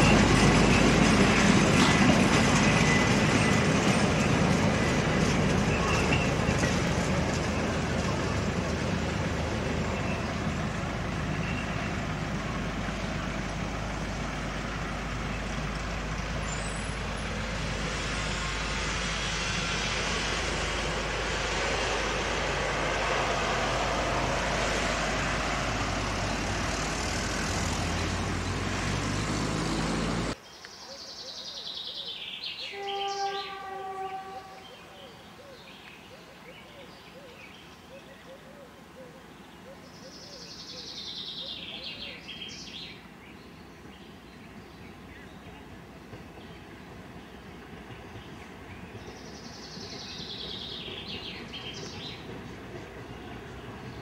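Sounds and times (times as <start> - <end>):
train wagons rumbling on track: 0.0 - 30.4, 40.3 - 54.0.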